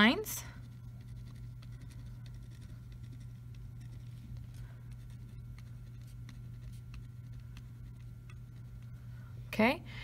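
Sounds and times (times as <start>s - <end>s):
steady low hum: 0.0s - 10.0s
pen scratching on paper: 0.5s - 9.0s.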